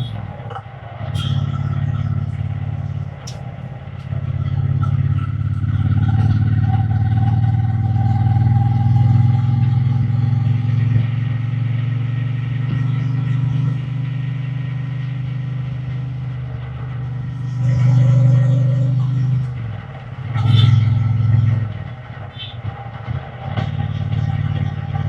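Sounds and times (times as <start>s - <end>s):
motorcycle engine and exhaust drone: 0.0s - 25.0s.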